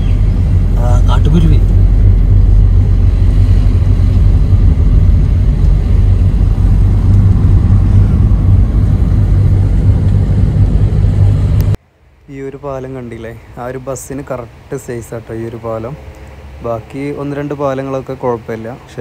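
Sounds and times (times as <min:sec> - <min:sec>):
vehicle rumbling on the move: 0:00.0 - 0:19.0.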